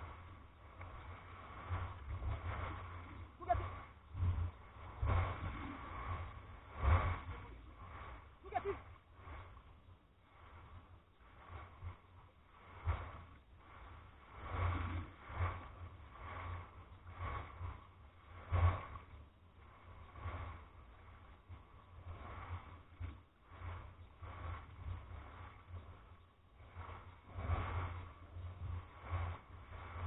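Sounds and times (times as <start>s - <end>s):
low rumble: 0.0s - 30.0s
waves washing over pebbles: 0.0s - 30.0s.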